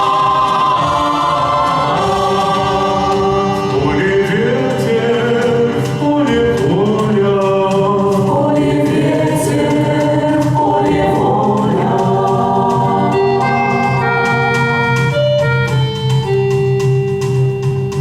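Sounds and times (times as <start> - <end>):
choir singing in harmony: 0.0 - 16.4
sustained accompanying chords: 0.0 - 18.0.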